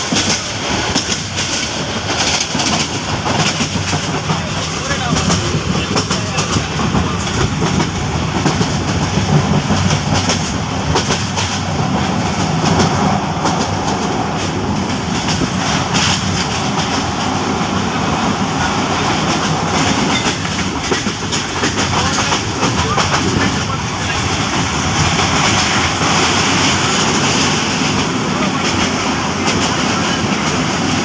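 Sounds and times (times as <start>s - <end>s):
train rumbling on track: 0.0s - 31.0s
wheels clicking over rail joints: 0.0s - 31.0s.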